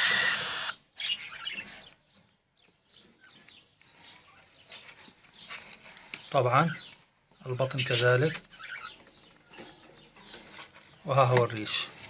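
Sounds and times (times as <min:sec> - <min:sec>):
faint cage birds chirping: 0:00.0 - 0:12.0.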